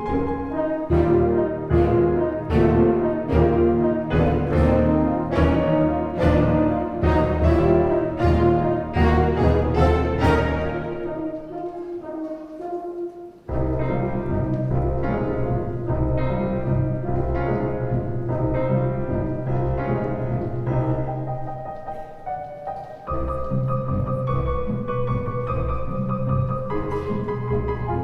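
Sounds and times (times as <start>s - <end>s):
orchestral ballet music: 0.0s - 28.0s.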